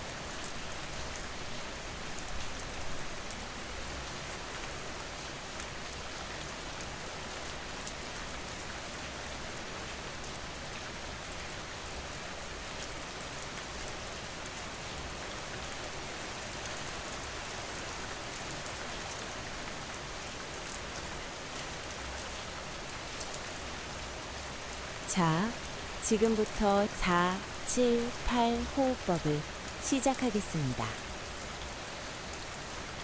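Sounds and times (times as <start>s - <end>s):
rain falling on a surface: 0.0s - 33.0s.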